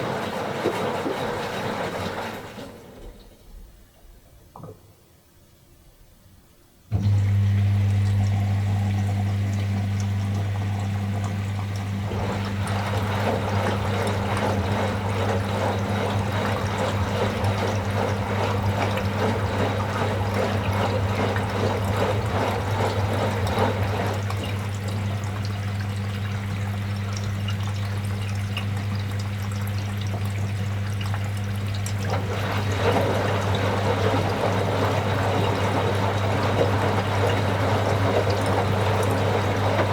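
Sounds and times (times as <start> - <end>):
washing machine hum: 0.0 - 5.2, 6.0 - 39.9.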